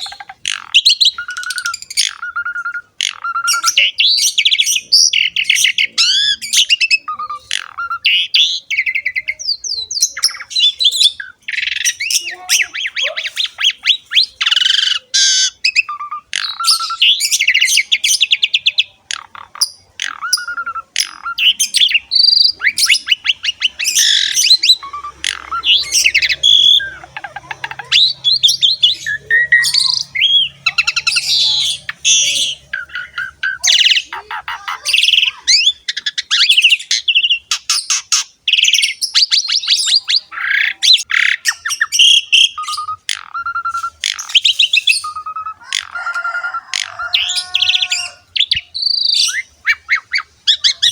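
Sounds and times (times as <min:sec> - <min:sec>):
starling singing: 0:00.0 - 0:50.9.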